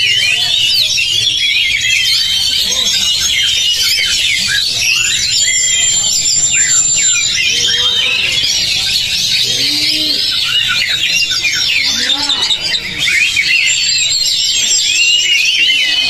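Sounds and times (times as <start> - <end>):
chorus of birds singing: 0.0 - 16.0
high steady bird whistle: 0.0 - 16.0.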